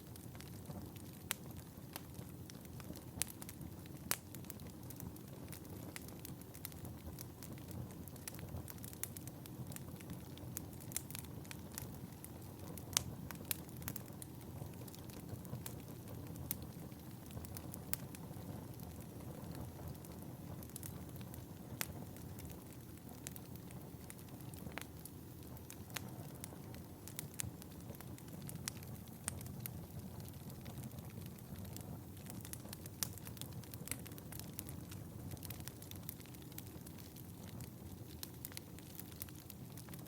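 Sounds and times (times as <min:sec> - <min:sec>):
fire popping: 0:00.0 - 0:40.0
wood fire crackling: 0:00.0 - 0:40.0.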